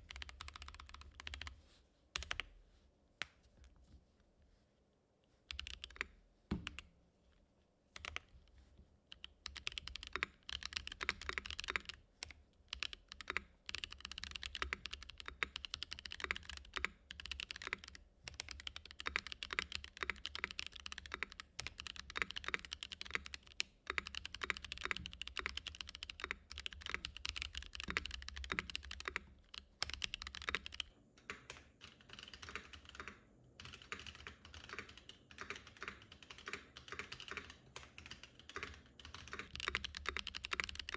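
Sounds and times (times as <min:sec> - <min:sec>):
mechanical keyboard typing: 0:00.0 - 0:01.5, 0:05.5 - 0:06.9, 0:08.0 - 0:08.3, 0:09.1 - 0:40.9.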